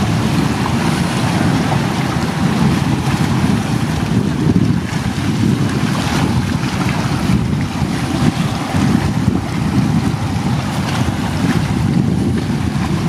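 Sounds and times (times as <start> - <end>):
waves washing against rocks: 0.0 - 13.0
wind blowing across microphone: 0.0 - 13.0.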